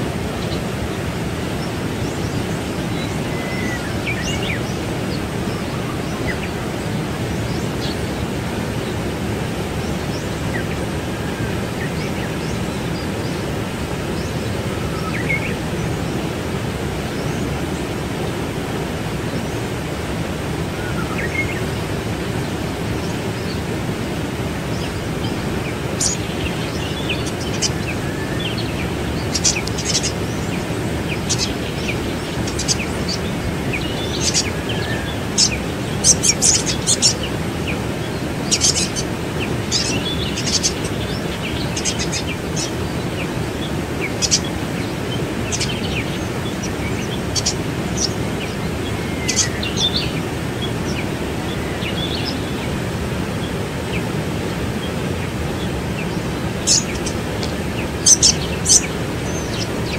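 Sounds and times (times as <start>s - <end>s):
small birds chirping: 0.0s - 59.9s
waterfall rushing: 0.0s - 59.9s.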